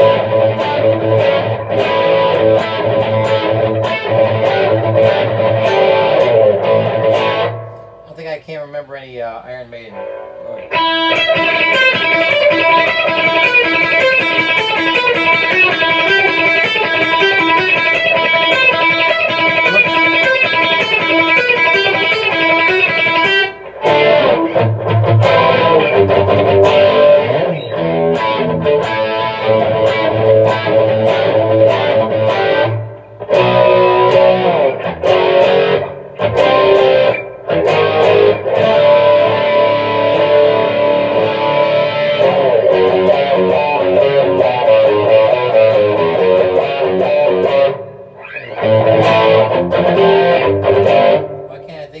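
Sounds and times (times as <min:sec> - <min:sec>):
overdriven electric guitar: 0:00.0 - 0:08.1, 0:09.9 - 0:52.0.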